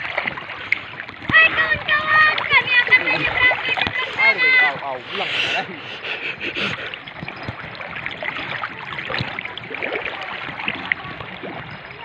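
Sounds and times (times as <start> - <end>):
river current rushing: 0.0 - 11.8
people wading through water: 0.0 - 12.0.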